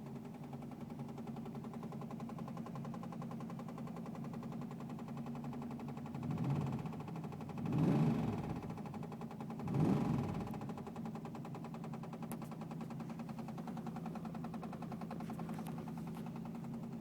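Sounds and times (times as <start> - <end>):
car engine running: 0.1 - 17.0.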